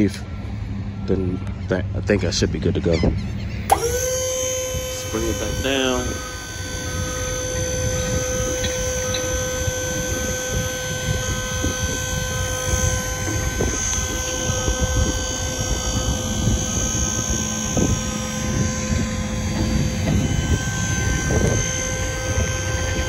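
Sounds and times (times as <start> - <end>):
hydraulic pump whining: 0.0 - 23.0.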